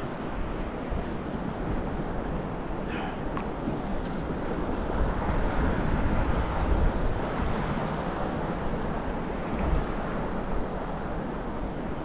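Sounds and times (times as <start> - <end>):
choppy water washing around kayak: 0.0 - 12.0
wind blowing across microphone: 0.0 - 12.0.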